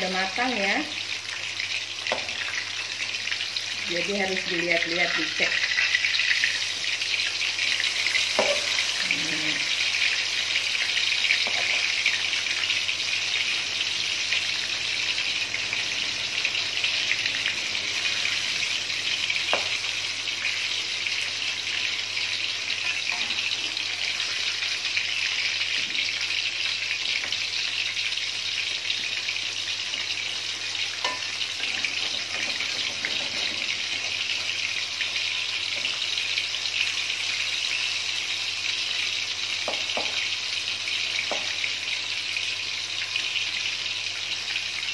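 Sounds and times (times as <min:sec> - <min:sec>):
fritters sizzling in hot oil: 0:00.0 - 0:44.9.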